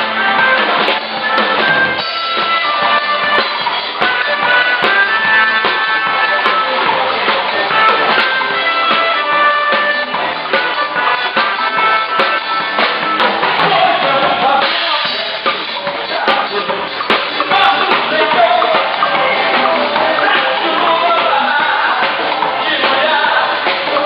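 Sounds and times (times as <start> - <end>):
drum kit beat: 0.0 - 24.0
live band playing: 0.0 - 24.0.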